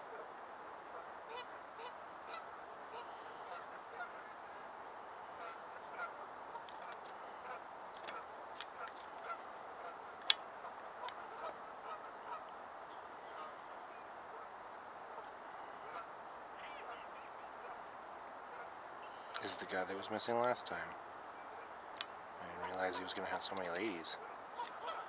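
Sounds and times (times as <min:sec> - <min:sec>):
distant waterfowl calling: 0:00.0 - 0:25.0.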